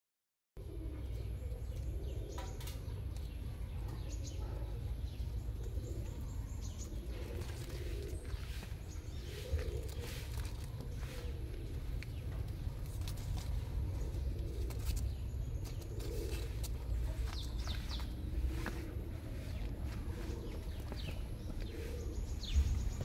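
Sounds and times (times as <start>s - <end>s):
birds calling: 0.6s - 23.0s
steady low rumble: 0.9s - 23.0s.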